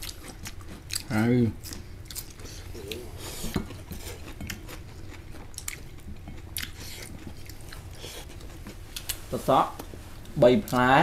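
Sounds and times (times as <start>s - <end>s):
person biting and chewing food: 0.0s - 9.3s.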